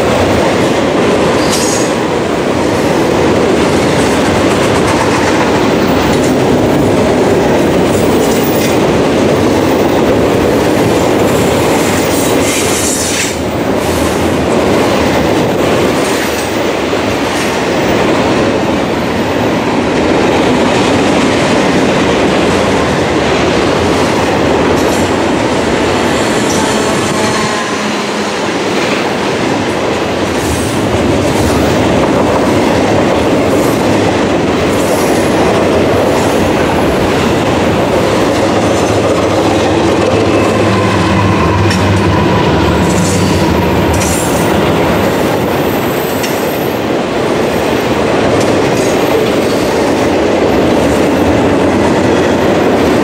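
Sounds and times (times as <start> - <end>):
diesel locomotive engine drone: 0.0 - 53.0
freight train wheels clattering: 0.0 - 53.0.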